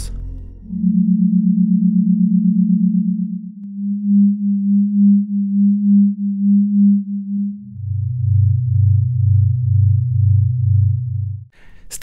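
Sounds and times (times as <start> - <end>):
low pulsing hum: 0.0 - 11.5.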